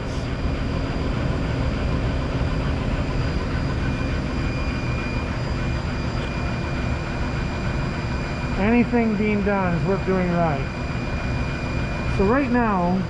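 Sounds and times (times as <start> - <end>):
laser engraver fans and exhaust: 0.0 - 13.0
thin high whine: 0.0 - 13.0.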